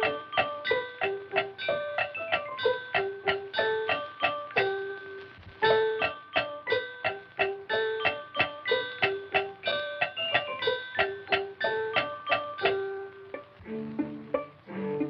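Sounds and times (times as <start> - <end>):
lively cartoon instrumental music: 0.0 - 15.0.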